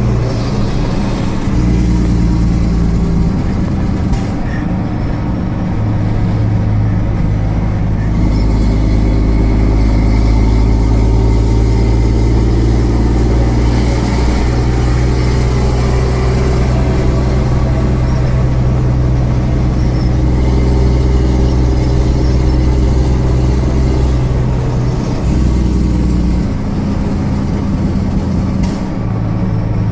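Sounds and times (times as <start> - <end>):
lorry diesel engine pulling: 0.0 - 29.9.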